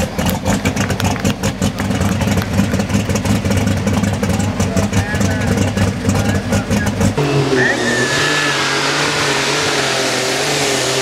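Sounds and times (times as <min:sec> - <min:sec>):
tractor engine running at low revs: 0:00.0 - 0:11.0.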